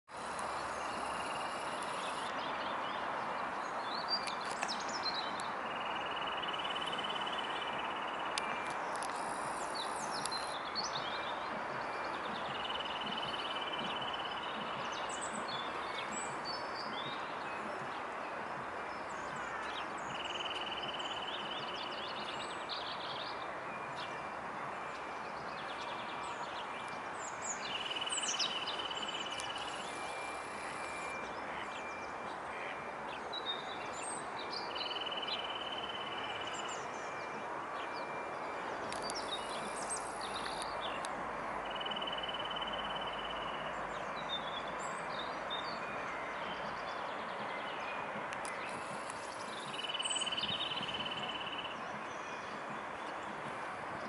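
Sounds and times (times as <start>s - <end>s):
songbirds chirping and singing: 0.1s - 54.0s.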